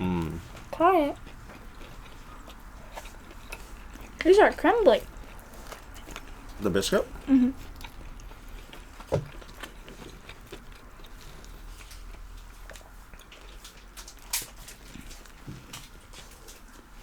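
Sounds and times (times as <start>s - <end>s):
people chewing crunchy food: 0.0s - 17.0s.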